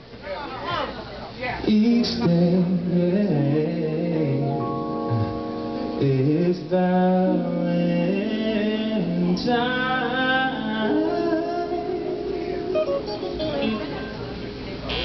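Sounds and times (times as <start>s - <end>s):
man singing into a microphone: 1.6s - 13.8s
band with keyboard and electric guitars: 1.7s - 15.0s.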